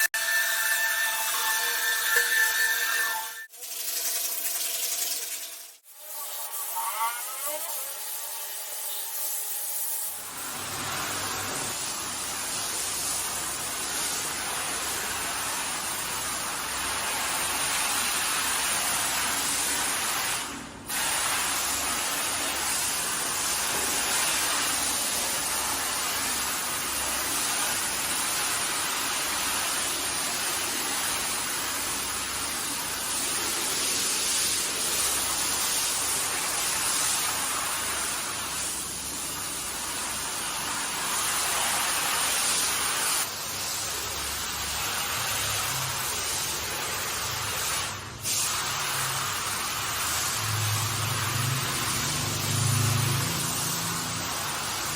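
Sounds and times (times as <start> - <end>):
water sprayer hissing on carpet: 7.5 - 54.9.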